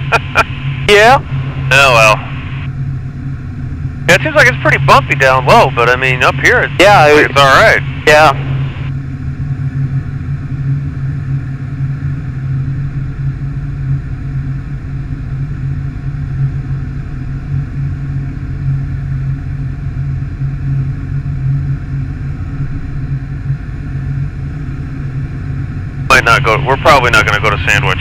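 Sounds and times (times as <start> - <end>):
light aircraft engine and propeller: 0.0 - 28.0.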